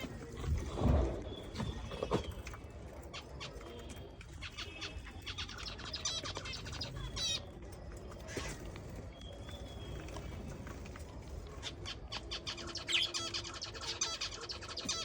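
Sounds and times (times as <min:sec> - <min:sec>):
small birds chirping: 0:00.0 - 0:15.0
bird trill: 0:01.3 - 0:10.3, 0:11.5 - 0:15.0.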